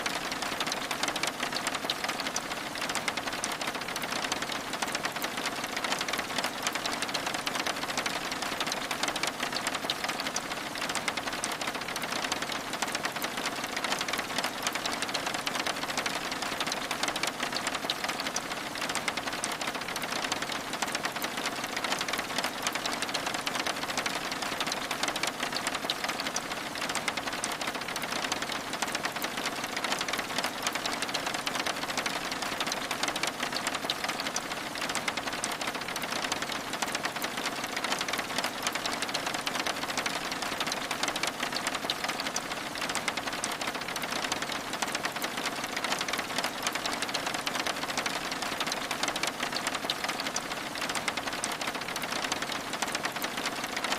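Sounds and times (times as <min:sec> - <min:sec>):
rain on window glass: 0:00.0 - 0:53.9.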